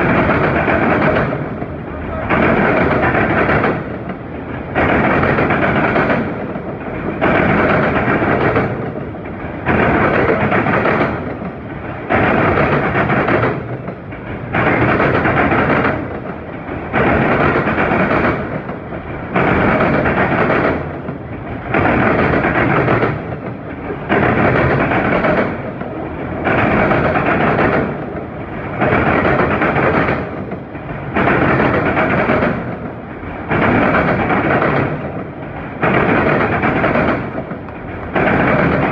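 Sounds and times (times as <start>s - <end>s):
freight train rolling past: 0.0s - 38.9s.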